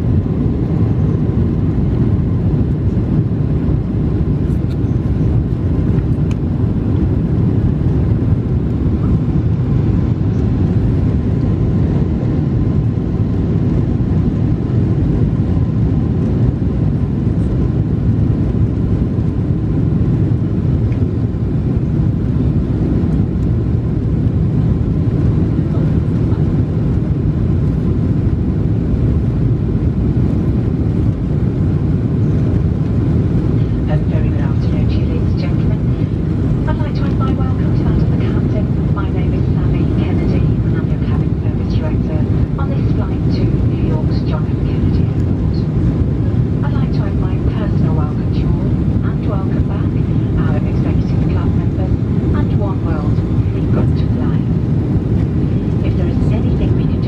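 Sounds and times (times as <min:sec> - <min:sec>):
jet engines and airflow rumble: 0:00.0 - 0:57.0.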